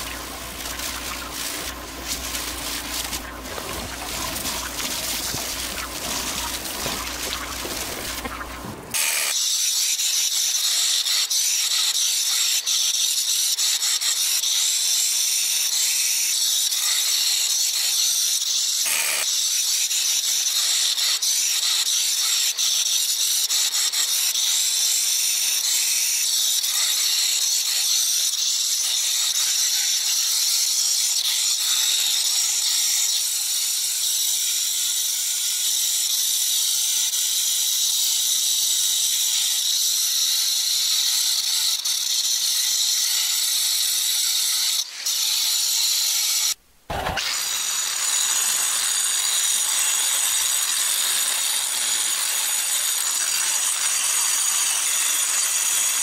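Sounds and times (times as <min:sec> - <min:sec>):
angle grinder sanding wood: 0:00.0 - 0:56.0.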